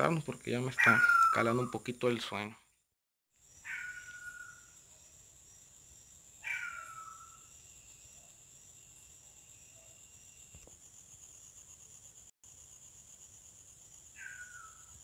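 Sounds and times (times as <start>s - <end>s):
crickets chirring: 0.0s - 2.5s, 3.4s - 15.0s
descending insect call: 0.0s - 2.5s, 3.4s - 15.0s.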